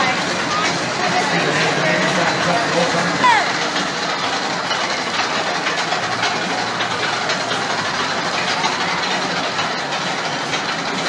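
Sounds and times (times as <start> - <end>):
roller coaster train rolling on track: 0.0 - 11.0.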